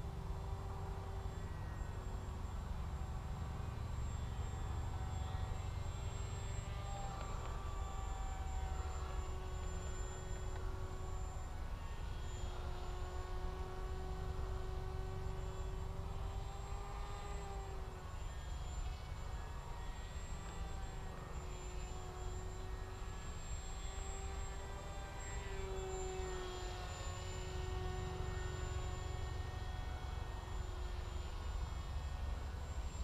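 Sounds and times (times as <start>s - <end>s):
model plane motor whining: 0.0s - 33.0s.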